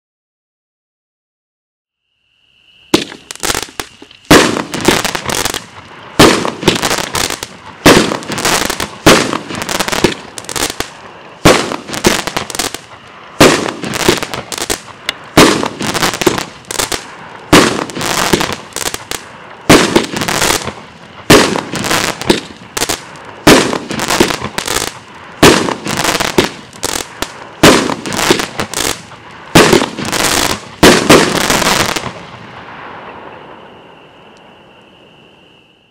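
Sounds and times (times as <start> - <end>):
firework fuse hiss: 2.9 - 33.7
loud aerial firework breaks: 3.0 - 33.2.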